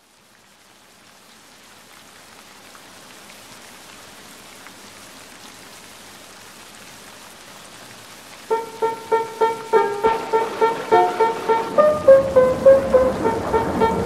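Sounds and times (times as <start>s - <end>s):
rain pattering: 0.0s - 14.0s.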